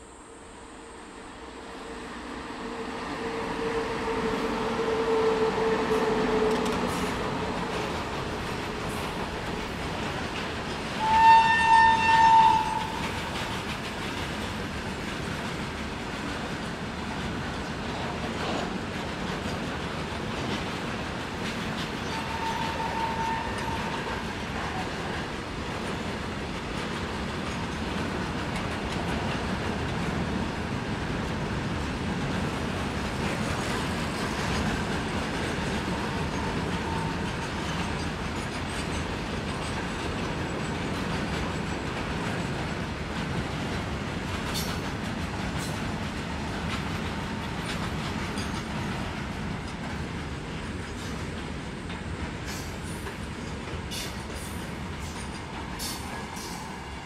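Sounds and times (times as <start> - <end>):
train wheels clickety-clack: 3.0 - 57.0.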